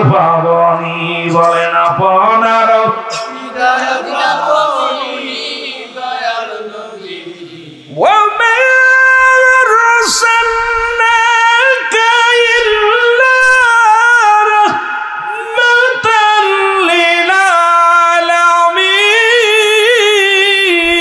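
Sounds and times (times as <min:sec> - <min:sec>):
man singing through microphone: 0:00.0 - 0:21.0.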